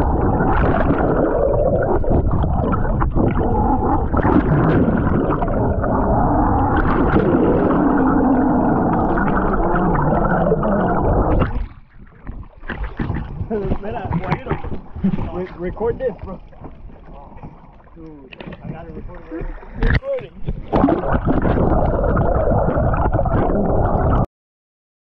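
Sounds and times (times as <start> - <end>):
muffled underwater rush: 0.0 - 24.3.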